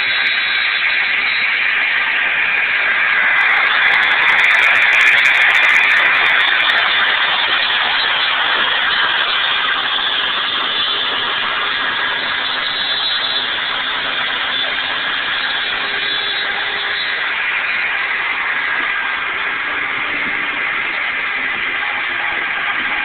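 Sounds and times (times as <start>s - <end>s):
router spindle whine and cutting: 0.0s - 23.0s.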